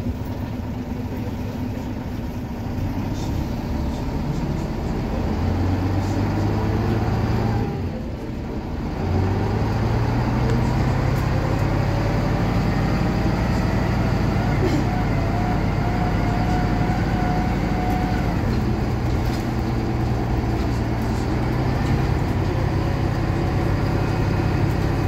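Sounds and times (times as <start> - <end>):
bus diesel engine accelerating: 0.0 - 25.0.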